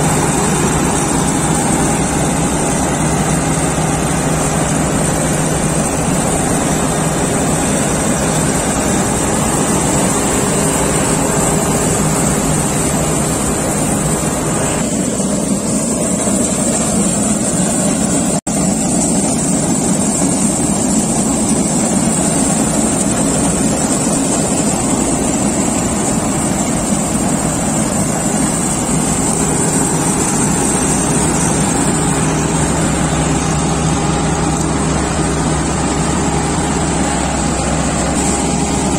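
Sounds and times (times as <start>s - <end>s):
combine harvester engine drone: 0.0s - 38.9s
threshing machinery clatter: 0.0s - 38.9s.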